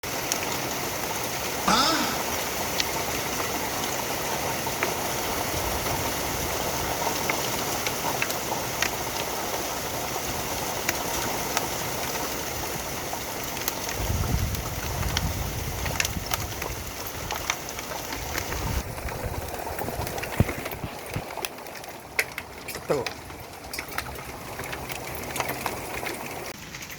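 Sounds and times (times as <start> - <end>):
hail pelting down: 0.0 - 26.9.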